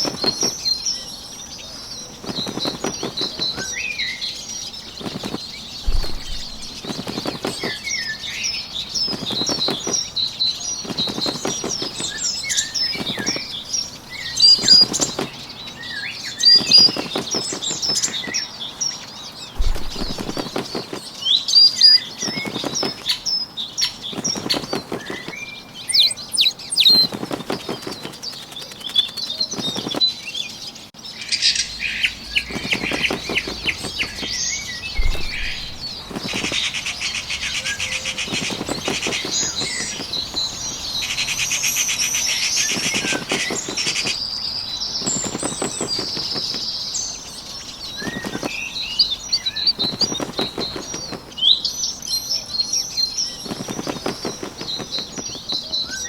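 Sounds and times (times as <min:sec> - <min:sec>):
rapid bird trill: 0:00.0 - 0:30.2, 0:31.3 - 0:56.0
bird wings flapping: 0:00.0 - 0:30.6, 0:32.0 - 0:56.0
birds chirping: 0:00.0 - 0:56.0.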